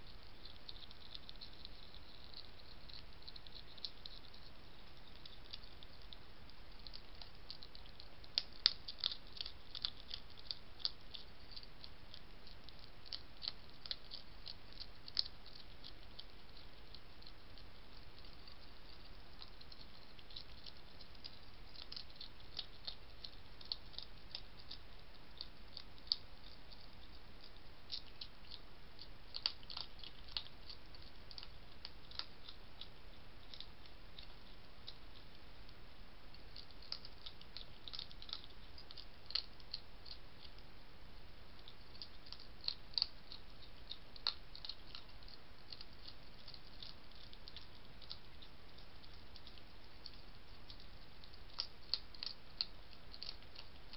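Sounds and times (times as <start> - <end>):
faint steady hiss: 0.0 - 53.9
hedgehog crunching dry food: 0.0 - 53.9.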